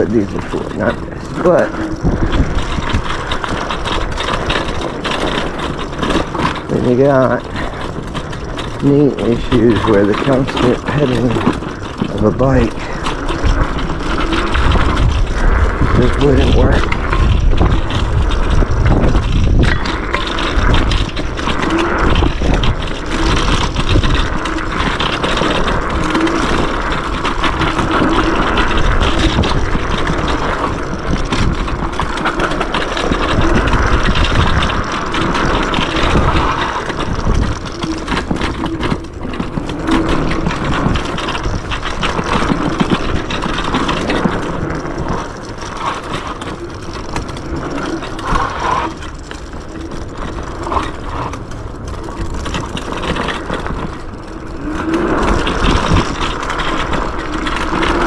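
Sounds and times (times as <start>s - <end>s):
scooter rattling over bumps: 0.0s - 58.0s
wind and tyre noise: 0.0s - 58.0s.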